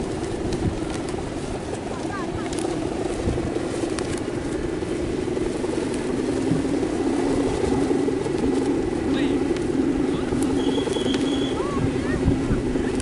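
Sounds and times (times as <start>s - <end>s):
kite hummer buzzing drone: 0.0s - 13.0s.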